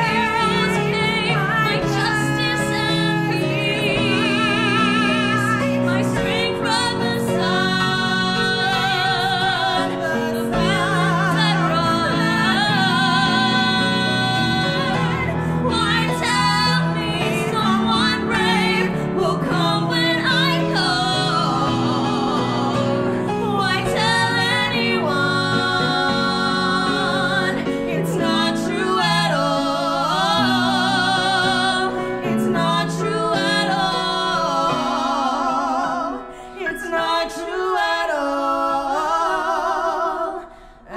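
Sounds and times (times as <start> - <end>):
piano accompaniment: 0.0 - 40.5
two women singing a duet: 0.0 - 40.9.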